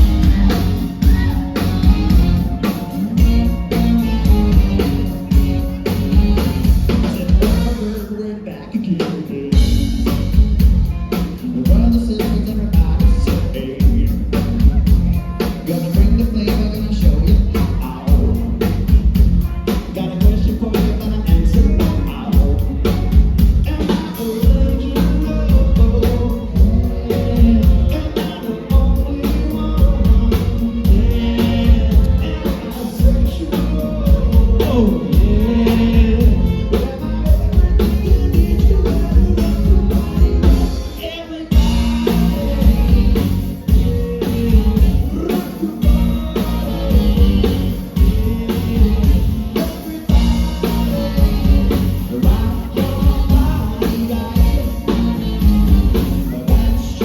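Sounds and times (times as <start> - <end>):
song with singing and drums: 0.0 - 57.0.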